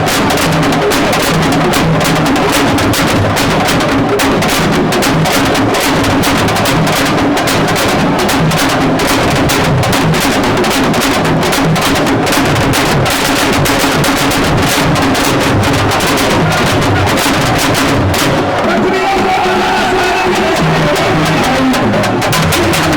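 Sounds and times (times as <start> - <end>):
fast dense drumming music: 0.0 - 22.9.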